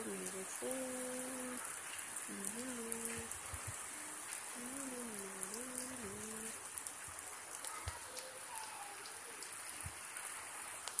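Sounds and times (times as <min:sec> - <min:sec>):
heavy rain on concrete roof: 0:00.0 - 0:11.0
raindrop taps: 0:00.0 - 0:11.0.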